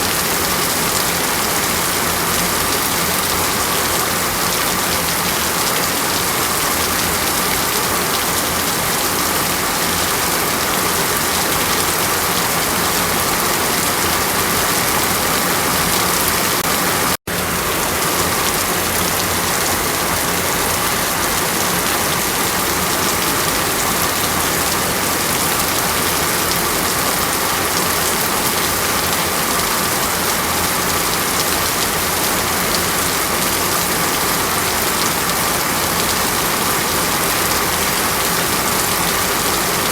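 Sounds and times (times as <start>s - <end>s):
hiss of falling water: 0.0s - 39.9s.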